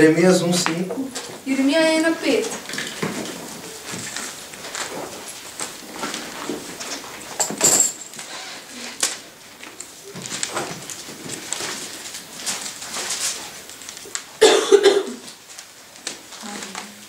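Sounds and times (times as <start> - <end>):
pages turning and rustling: 2.3 - 14.4, 15.2 - 17.0.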